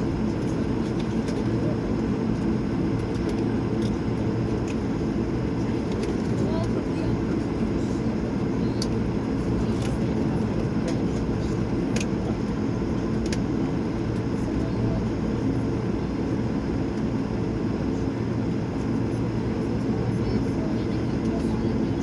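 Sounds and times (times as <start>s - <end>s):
airplane cabin engine hum: 0.0s - 22.0s.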